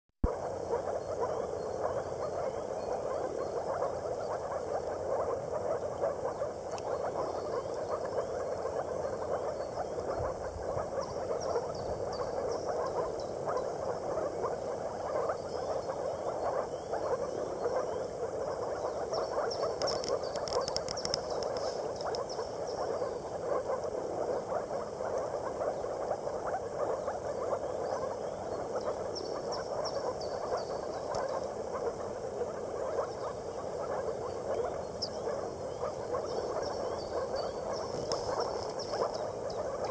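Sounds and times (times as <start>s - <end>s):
frogs calling in chorus: 0.2s - 39.9s.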